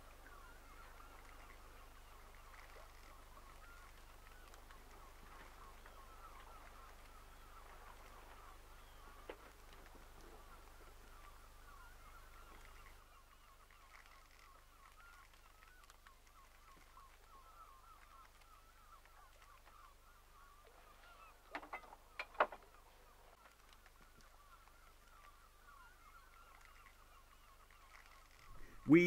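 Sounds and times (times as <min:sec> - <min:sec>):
flock of birds chattering: 0:00.0 - 0:29.0
sharp bird calls: 0:00.0 - 0:29.0.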